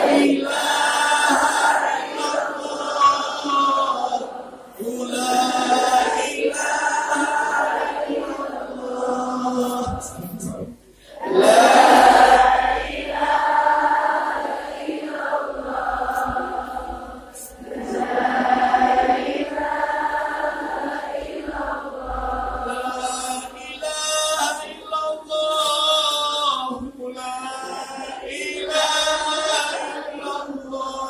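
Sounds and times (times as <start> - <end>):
congregation chanting: 0.0 - 31.0.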